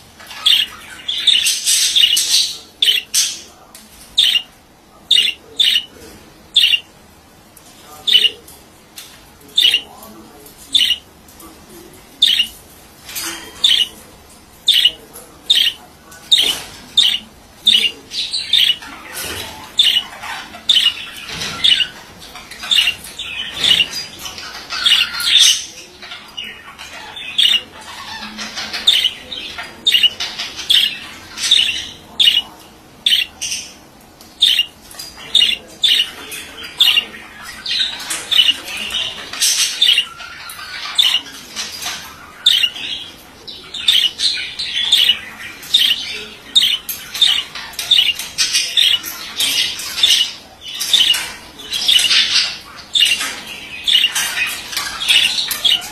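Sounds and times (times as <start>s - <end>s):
budgerigar calling: 0.2s - 3.5s, 4.2s - 4.5s, 5.1s - 5.9s, 6.5s - 6.9s, 8.0s - 8.4s, 9.6s - 9.9s, 10.7s - 11.1s, 12.2s - 12.5s, 13.6s - 13.9s, 14.7s - 33.8s, 34.4s - 55.9s
budgerigar warbling chatter: 0.2s - 3.5s, 4.2s - 5.9s, 6.6s - 6.9s, 8.0s - 8.4s, 9.6s - 9.9s, 10.7s - 11.1s, 12.2s - 12.5s, 13.2s - 14.0s, 14.7s - 33.8s, 34.4s - 55.9s.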